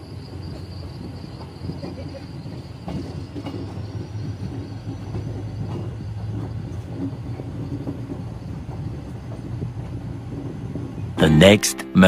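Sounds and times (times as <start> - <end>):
train coach low rumble: 0.0 - 12.0.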